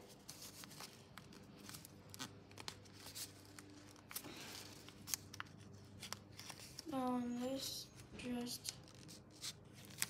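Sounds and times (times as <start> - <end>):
paper crinkling and rustling: 0.0 - 10.0.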